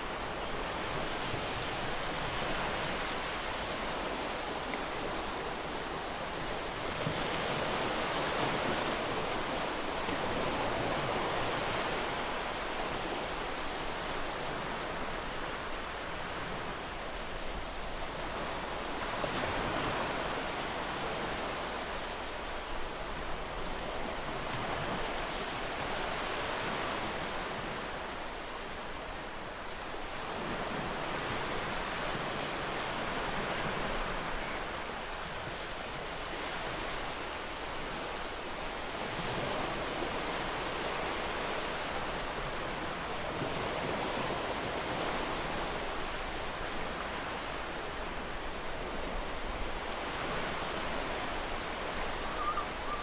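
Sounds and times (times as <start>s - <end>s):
ocean surf breaking on shore: 0.0s - 53.0s.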